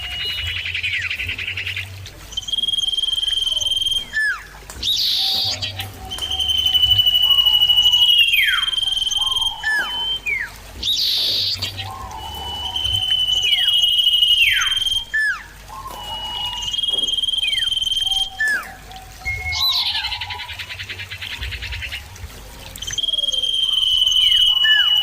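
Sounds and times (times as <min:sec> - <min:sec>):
bird singing high whistles: 0:00.0 - 0:22.0, 0:22.8 - 0:25.0.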